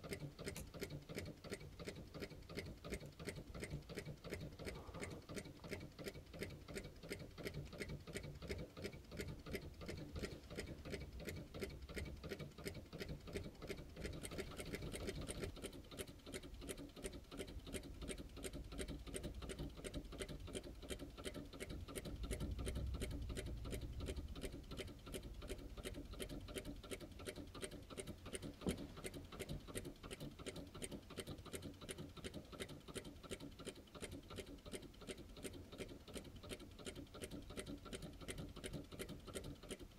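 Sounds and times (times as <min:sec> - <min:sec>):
small engine clicking rhythmically: 0:00.0 - 0:39.9.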